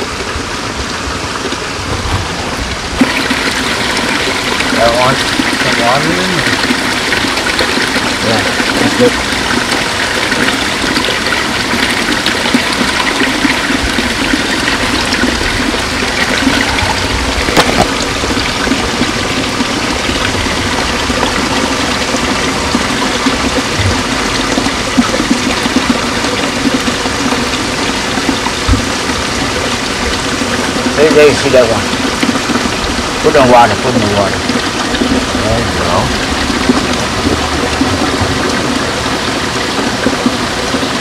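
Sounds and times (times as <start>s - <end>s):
water pouring into a pond: 0.0s - 41.0s.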